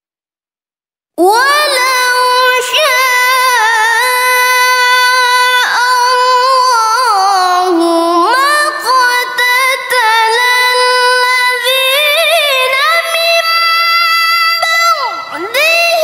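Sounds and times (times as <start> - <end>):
woman reciting melodically: 1.2 - 16.0.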